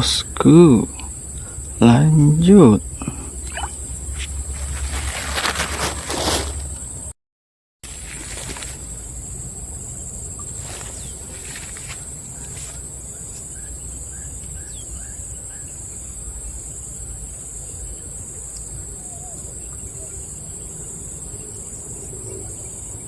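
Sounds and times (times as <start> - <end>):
insect chirps: 0.0 - 7.2, 7.8 - 23.0
insects droning: 0.0 - 7.2, 7.8 - 23.0.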